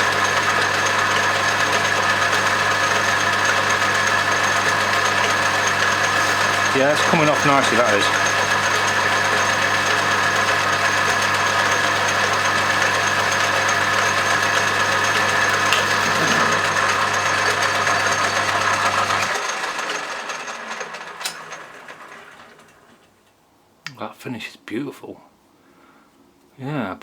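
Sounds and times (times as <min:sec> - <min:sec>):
metal lathe running: 0:00.0 - 0:22.8.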